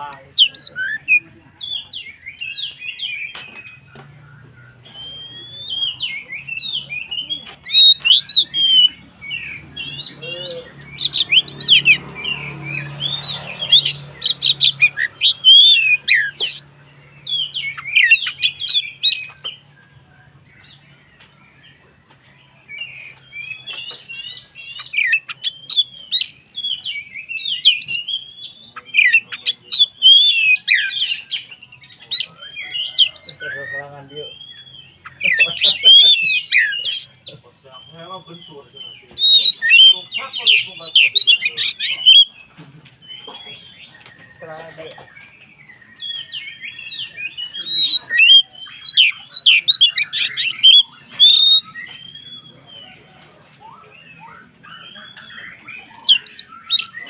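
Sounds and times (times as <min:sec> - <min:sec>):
bird singing whistles and chirps: 0:00.0 - 0:42.5, 0:43.1 - 0:57.0.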